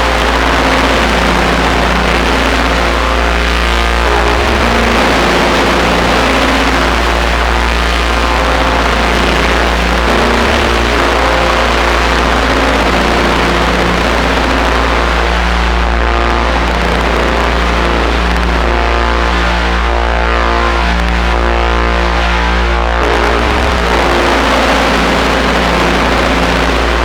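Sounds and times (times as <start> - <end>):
ambient synthesizer drone: 0.0 - 27.0.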